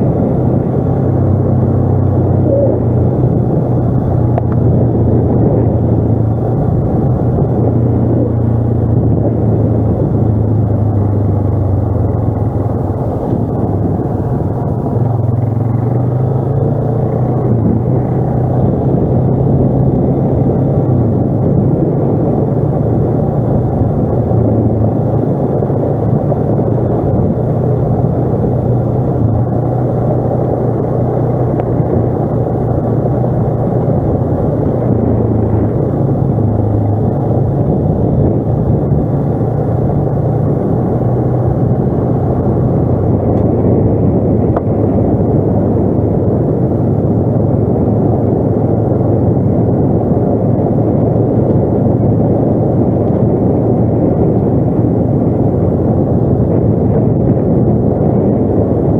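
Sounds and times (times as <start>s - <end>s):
atv engine running: 0.0s - 58.9s
rumble of vehicle moving: 0.0s - 58.9s.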